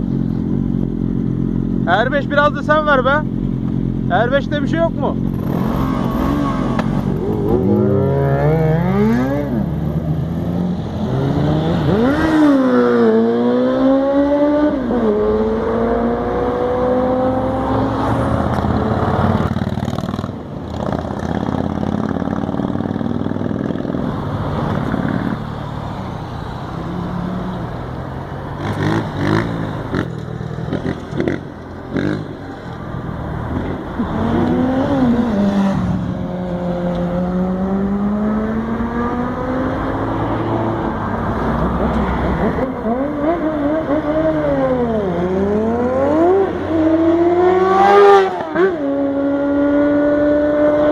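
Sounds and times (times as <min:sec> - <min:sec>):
motorcycle engines revving: 0:00.0 - 0:50.9.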